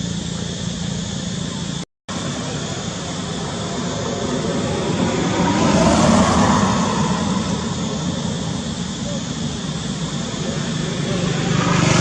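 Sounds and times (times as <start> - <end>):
vehicle passing rumble: 0.0 - 12.0.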